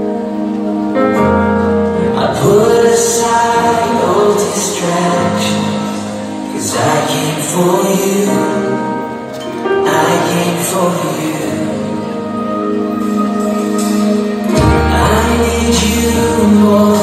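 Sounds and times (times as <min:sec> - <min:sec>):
instruments playing worship music: 0:00.0 - 0:17.0
voices singing: 0:02.0 - 0:17.0.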